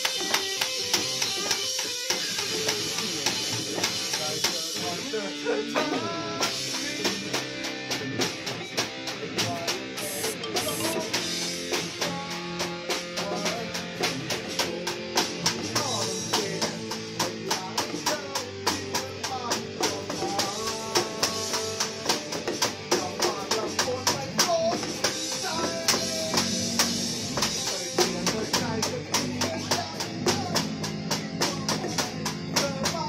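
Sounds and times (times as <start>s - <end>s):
electronic drum beat: 0.0s - 5.2s, 6.0s - 33.0s
electric guitar: 0.0s - 33.0s.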